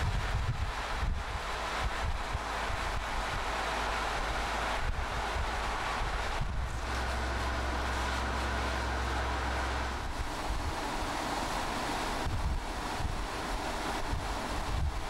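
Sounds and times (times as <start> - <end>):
car tyre and wind noise: 0.0 - 15.0
low hum: 0.0 - 15.0.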